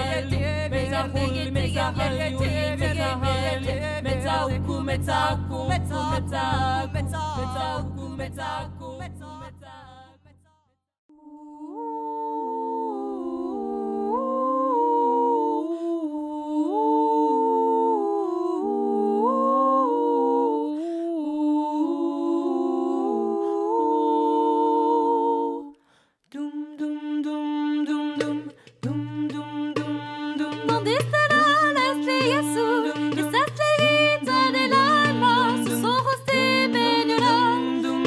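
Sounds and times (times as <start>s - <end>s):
women singing a cappella: 0.0s - 10.3s, 11.1s - 38.0s.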